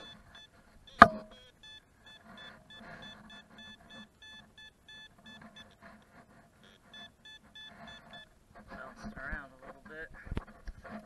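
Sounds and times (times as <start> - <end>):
metal detector beeping: 0.0 - 9.5.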